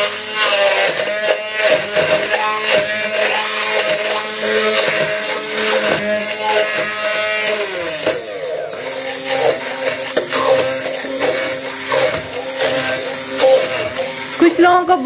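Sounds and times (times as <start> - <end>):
blender blade clicking: 0.0 - 15.0
hand blender running: 0.0 - 15.0.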